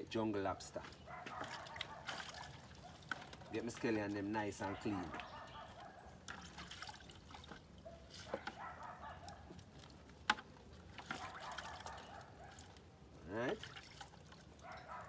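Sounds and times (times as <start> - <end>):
water dripping into plastic bucket: 0.8 - 15.0.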